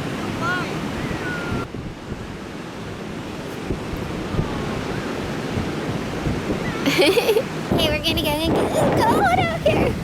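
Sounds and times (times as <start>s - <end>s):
ocean waves washing on beach: 0.0s - 10.0s
wind rumbling on microphone: 0.0s - 10.0s.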